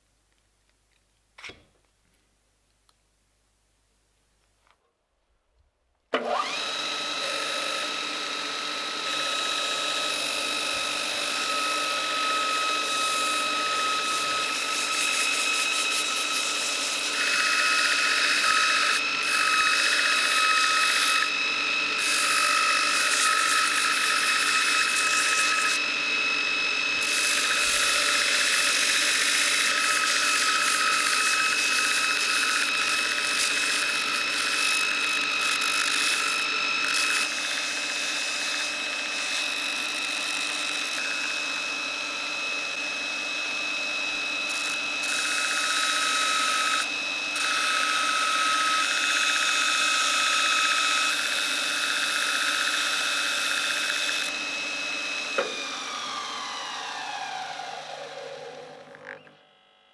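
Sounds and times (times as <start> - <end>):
belt grinder whining: 6.1 - 59.6
wood being sanded: 6.4 - 57.8.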